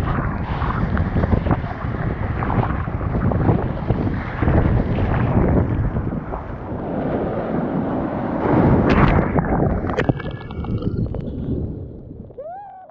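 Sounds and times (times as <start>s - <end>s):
surf wave rushing: 0.0s - 10.8s
wind buffeting microphone: 0.0s - 12.8s.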